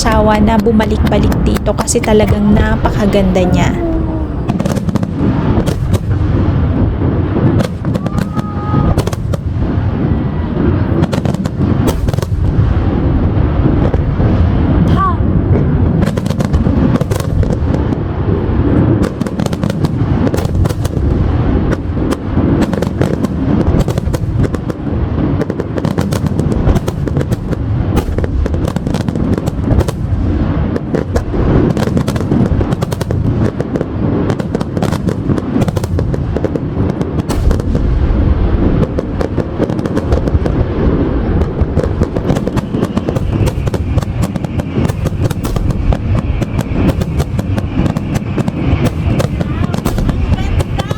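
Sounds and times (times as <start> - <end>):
fireworks deep booms: 0.0 - 50.9
fireworks sharp crackling: 0.0 - 50.9.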